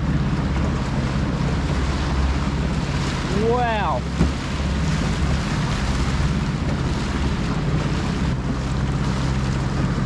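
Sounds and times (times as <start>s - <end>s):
outboard motor running: 0.0s - 10.0s
water rushing along hull: 0.0s - 10.0s
wind buffeting microphone: 0.0s - 10.0s.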